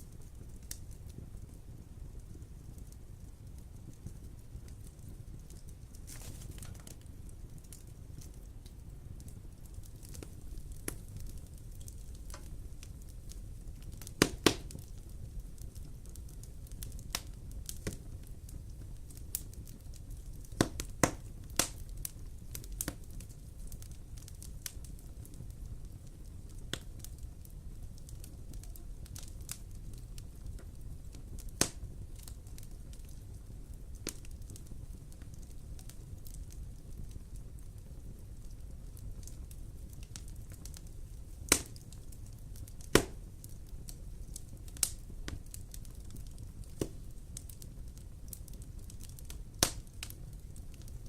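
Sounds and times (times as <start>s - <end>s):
sharp pops of fire: 0.0s - 51.0s
wood fire crackling: 0.0s - 51.0s.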